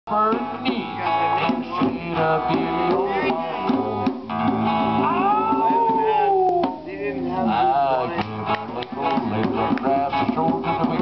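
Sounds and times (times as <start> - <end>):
man singing: 0.1 - 11.0
strummed acoustic guitar: 0.1 - 11.0
djembe hand drums: 0.2 - 11.0.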